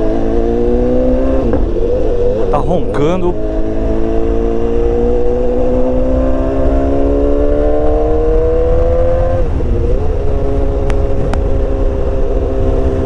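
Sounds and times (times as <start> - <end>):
motorcycle engine growling: 0.0 - 13.0
wind and road noise: 0.0 - 13.0.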